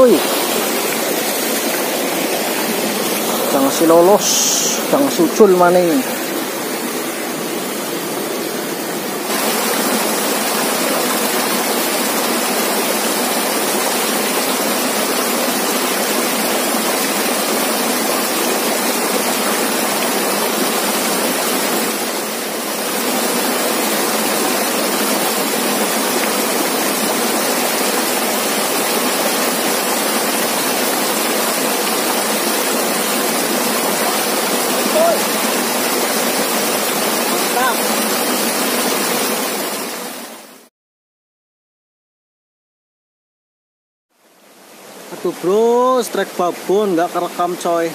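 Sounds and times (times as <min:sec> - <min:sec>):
waterfall and stream rushing: 0:00.0 - 0:40.7, 0:44.2 - 0:47.9.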